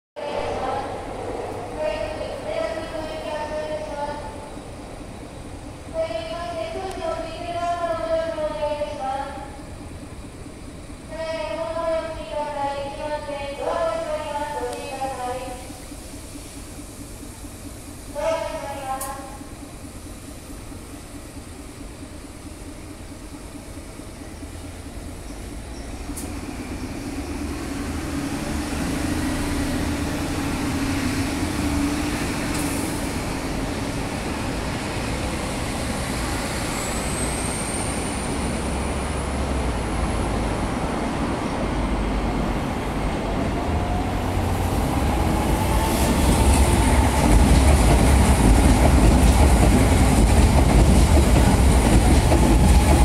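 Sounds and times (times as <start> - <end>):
electric train passing: 0.2 - 53.0.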